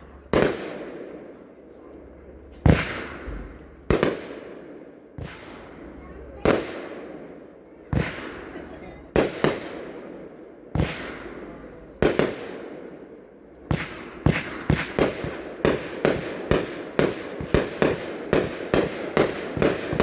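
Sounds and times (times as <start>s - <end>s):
firework bursts with crackling tails: 0.0s - 1.6s, 2.5s - 20.0s.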